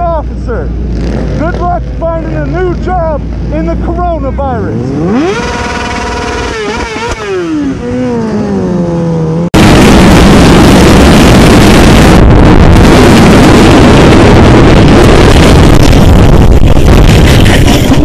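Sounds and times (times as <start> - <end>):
motorcycle engine revving: 0.0 - 18.0
wind roaring on microphone: 0.0 - 18.0.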